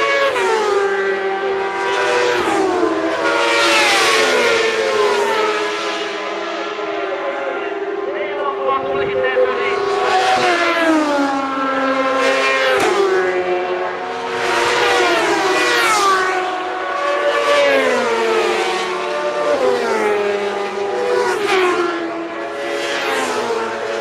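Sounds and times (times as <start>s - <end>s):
racing motorcycles passing at high revs: 0.0s - 24.0s.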